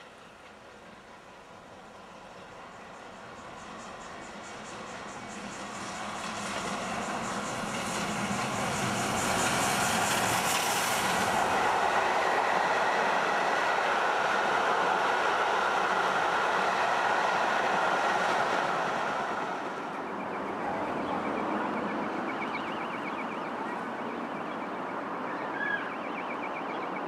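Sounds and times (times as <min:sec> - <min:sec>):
steam locomotive exhaust beats: 0:00.0 - 0:23.3.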